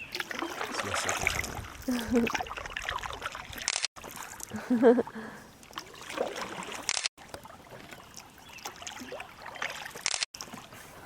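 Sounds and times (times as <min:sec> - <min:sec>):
paddle splashes: 0:00.0 - 0:11.0
water lapping around canoe: 0:00.0 - 0:11.0.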